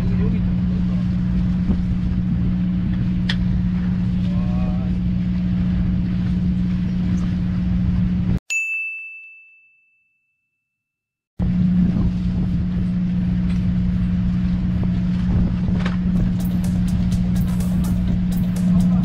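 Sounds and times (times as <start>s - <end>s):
boat engine drone: 0.0s - 8.4s, 11.4s - 19.0s.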